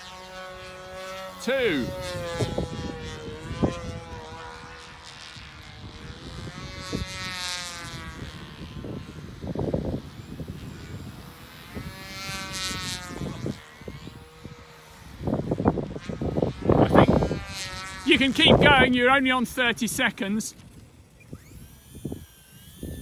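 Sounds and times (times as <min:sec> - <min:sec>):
model aeroplane motor buzzing: 0:00.0 - 0:23.0
wind buffeting microphone: 0:01.5 - 0:23.0.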